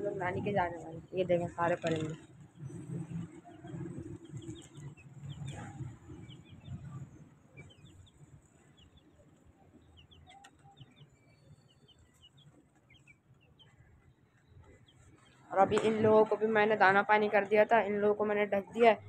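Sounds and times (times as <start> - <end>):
caged birds chirping: 0.0 - 19.0.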